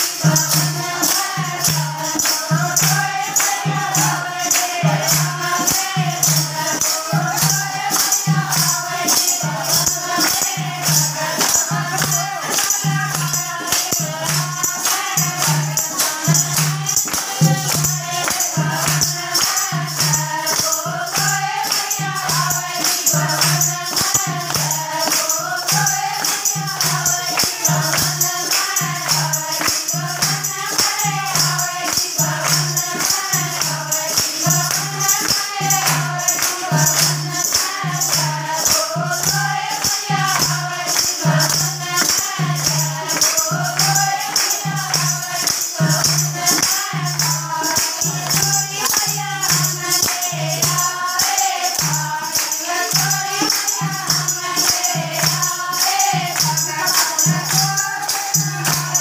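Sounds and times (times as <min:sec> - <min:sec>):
jingling percussion beat: 0:00.0 - 0:59.0
rhythmic hand-clapping: 0:00.0 - 0:59.0
women singing together: 0:00.0 - 0:59.0.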